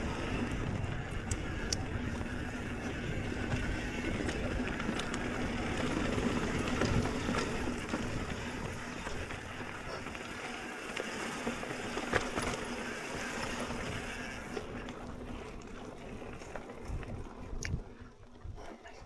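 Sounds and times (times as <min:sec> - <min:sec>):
bike rattling and knocking: 0:00.0 - 0:17.2
bike tyres on dirt and rock: 0:00.0 - 0:18.6.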